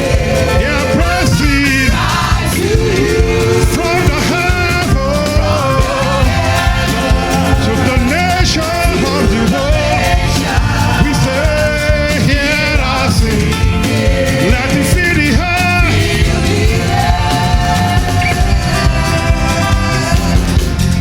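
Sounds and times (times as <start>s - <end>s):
people singing: 0.0s - 21.0s
praise band playing gospel song: 0.0s - 21.0s.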